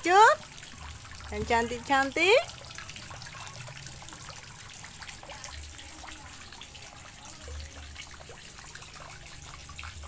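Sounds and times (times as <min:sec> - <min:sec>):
water drips and splashes: 0:00.0 - 0:10.0
water trickling into pond: 0:00.0 - 0:10.0.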